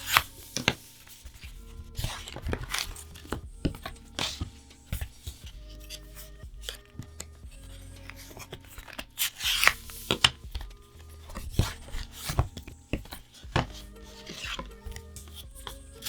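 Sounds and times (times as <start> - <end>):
crinkles and taps of cards: 0.0 - 16.0
soft background music: 0.0 - 16.0.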